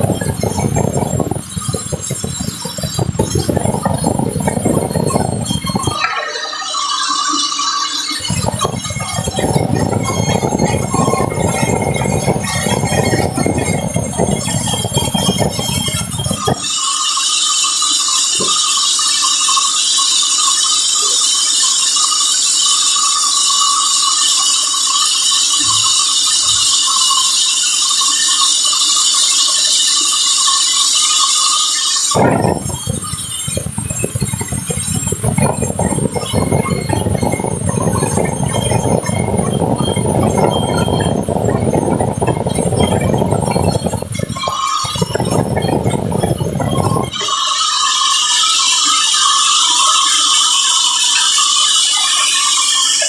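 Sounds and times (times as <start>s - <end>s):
saw cutting through log: 0.0s - 53.0s.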